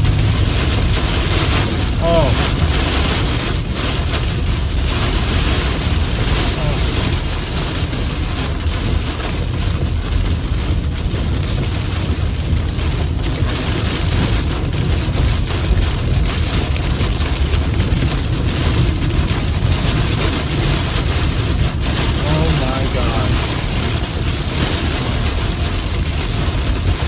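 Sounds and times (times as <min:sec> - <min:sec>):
heavy rain on car roof: 0:00.0 - 0:27.0
low vehicle rumble: 0:00.0 - 0:27.0.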